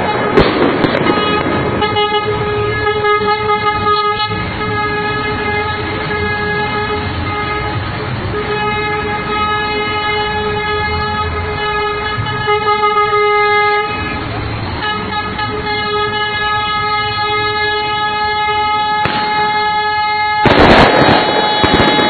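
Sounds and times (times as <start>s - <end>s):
bus air horn blast: 1.0s - 14.2s, 14.8s - 22.0s.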